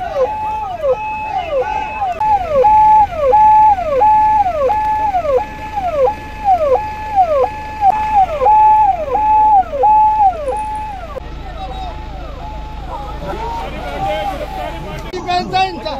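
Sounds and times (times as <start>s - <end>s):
ambulance siren wailing: 0.0s - 15.9s.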